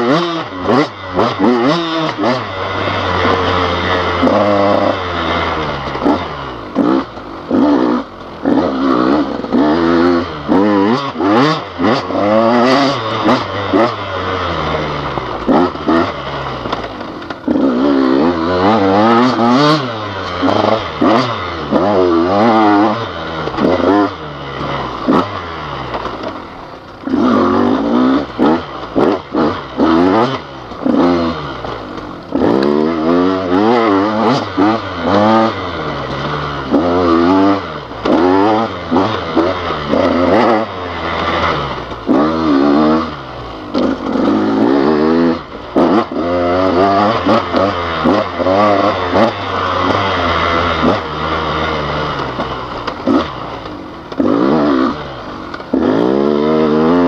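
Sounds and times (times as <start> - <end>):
dirt bike engine revving: 0.0 - 57.0
knocks and clatter from bike: 0.0 - 57.0.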